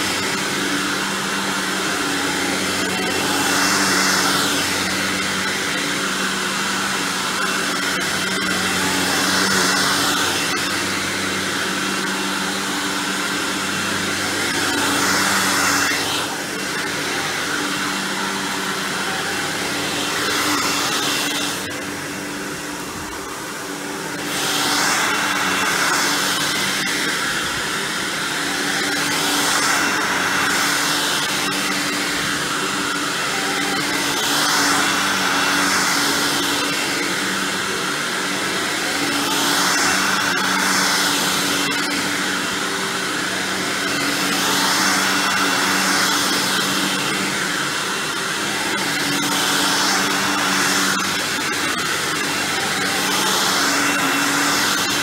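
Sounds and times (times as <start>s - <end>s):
vacuum cleaner on carpet: 0.0s - 55.0s.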